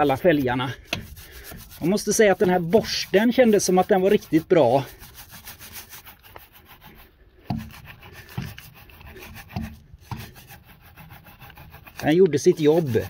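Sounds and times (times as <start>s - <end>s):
brush scrubbing metal wheel: 0.0s - 13.0s.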